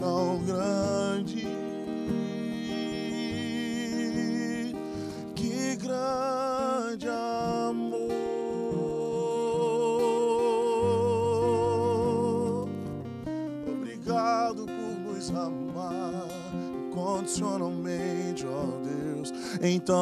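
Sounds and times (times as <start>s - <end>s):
acoustic guitar: 0.0s - 20.0s
man singing: 0.0s - 20.0s.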